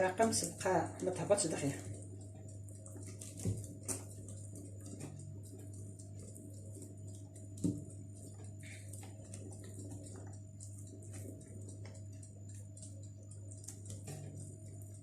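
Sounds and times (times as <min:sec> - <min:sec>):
faint irregular ticks: 0:00.0 - 0:15.0
steady low hum: 0:00.0 - 0:15.0.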